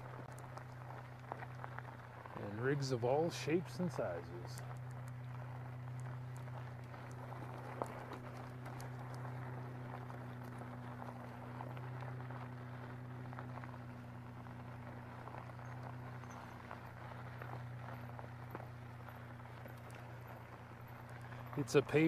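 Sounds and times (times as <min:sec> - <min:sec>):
bike tyres crunching on gravel: 0:00.0 - 0:22.0
steady low hum: 0:00.0 - 0:22.0.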